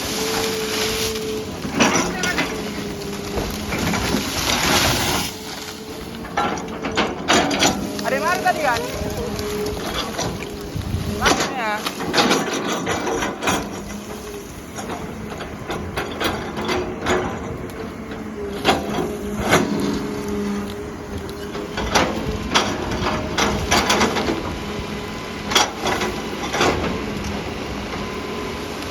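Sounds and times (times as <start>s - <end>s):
excavator running: 0.0s - 28.9s.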